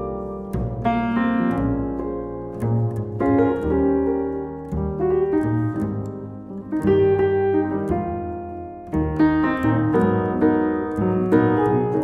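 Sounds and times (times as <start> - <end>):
double bass notes: 0.0 - 12.0
slow jazz ballad on keyboard: 0.0 - 12.0.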